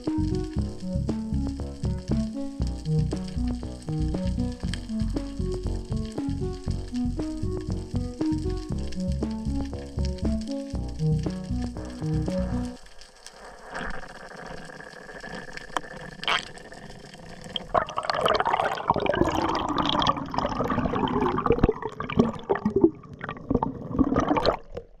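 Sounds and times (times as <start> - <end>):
small clicks and pops: 0.0 - 25.0
water bubbling and sloshing: 0.0 - 25.0.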